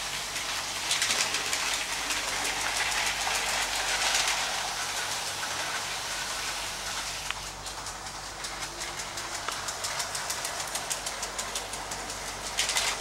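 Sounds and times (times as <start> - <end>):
toy electric train rattling on track: 0.0 - 13.0.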